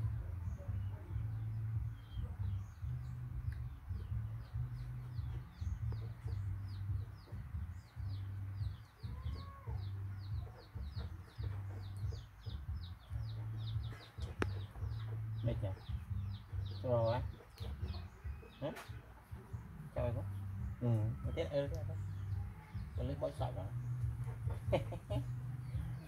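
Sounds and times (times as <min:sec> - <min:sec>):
birds chirping: 0:00.0 - 0:26.0
low uneven rumble: 0:00.0 - 0:26.0.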